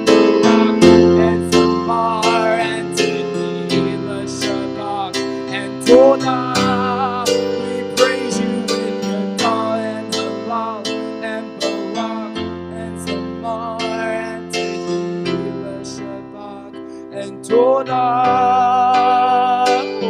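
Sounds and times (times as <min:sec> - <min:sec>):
keyboard chords: 0:00.0 - 0:20.0.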